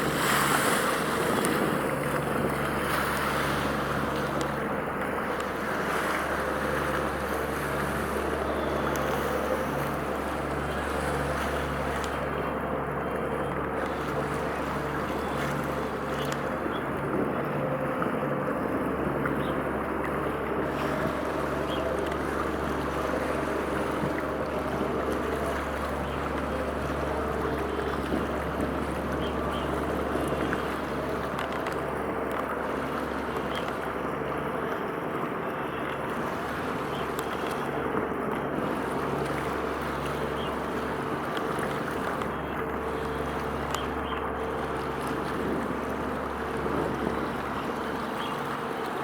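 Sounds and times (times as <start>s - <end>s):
ship engine droning: 0.0s - 49.0s
water noise: 0.0s - 49.0s
wind: 0.0s - 49.0s.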